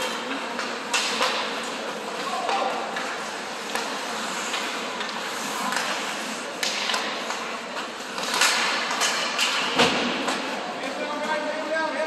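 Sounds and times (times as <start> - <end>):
hockey sticks and puck knocks: 0.0 - 10.6
skates scraping on ice: 0.0 - 11.9.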